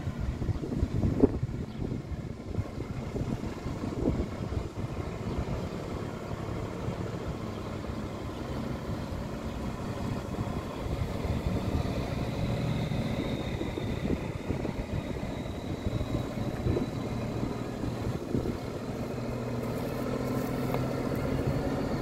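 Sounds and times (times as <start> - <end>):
truck diesel engine rumbling: 0.0 - 22.0.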